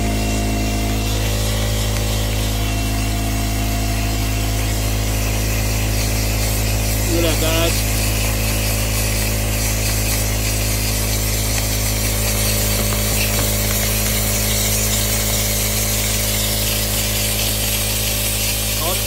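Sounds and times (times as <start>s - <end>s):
vent cleaning tool humming: 0.0s - 19.0s.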